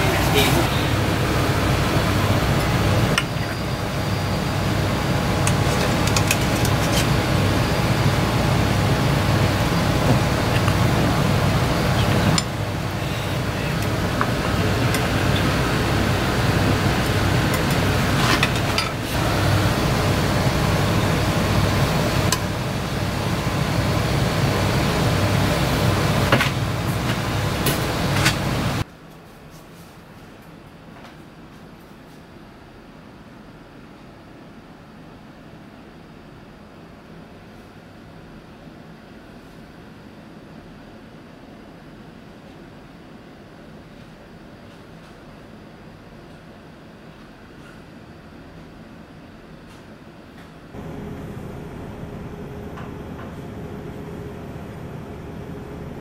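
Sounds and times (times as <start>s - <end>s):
low mechanical hum with hiss: 0.0s - 56.0s.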